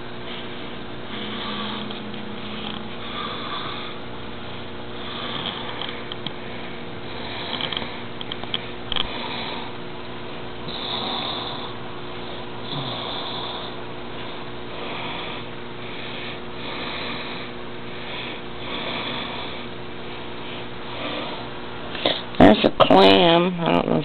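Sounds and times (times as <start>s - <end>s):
person breathing: 0.0s - 9.8s, 10.6s - 22.4s
low electrical hum: 0.0s - 24.0s.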